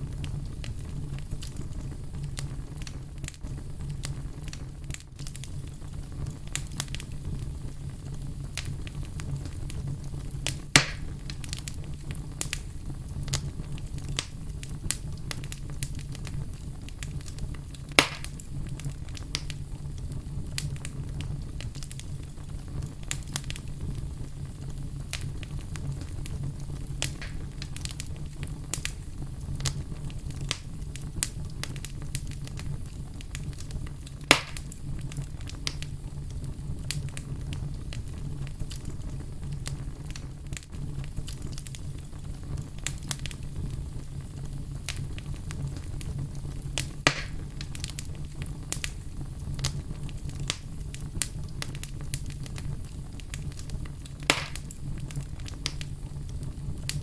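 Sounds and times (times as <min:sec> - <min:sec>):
fire crackling: 0:00.0 - 0:57.0
sharp pops of fire: 0:00.0 - 0:57.0.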